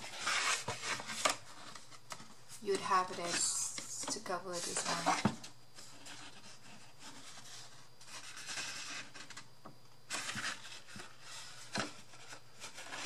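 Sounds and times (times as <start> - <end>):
paper rustling and rubbing: 0.0 - 9.5, 10.1 - 13.0.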